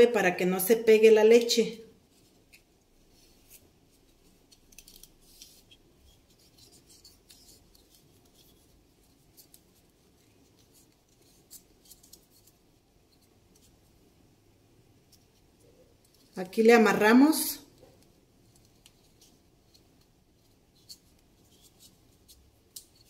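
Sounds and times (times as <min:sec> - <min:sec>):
thread scratching and rustling: 0:01.9 - 0:14.1, 0:15.0 - 0:23.0.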